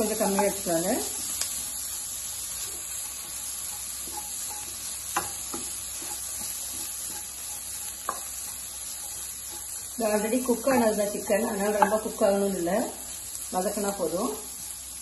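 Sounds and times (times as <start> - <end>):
wooden spatula scraping a pan: 0.0 - 12.4
food sizzling in a pan: 0.0 - 15.0.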